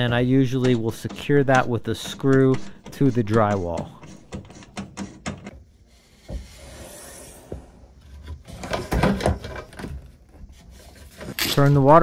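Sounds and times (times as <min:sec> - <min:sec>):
knock and scrape of handling: 0:02.0 - 0:11.7.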